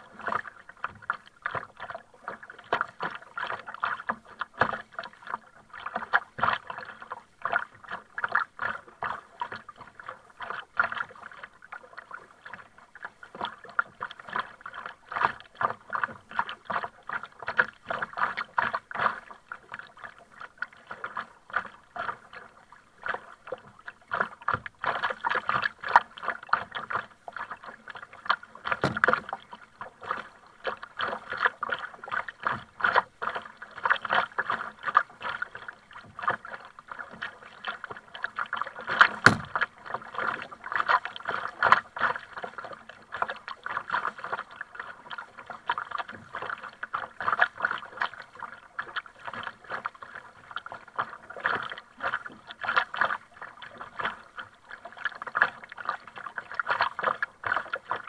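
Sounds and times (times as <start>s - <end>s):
kayak paddle dipping: 0.0s - 58.0s
waves slapping against hull: 0.0s - 58.0s.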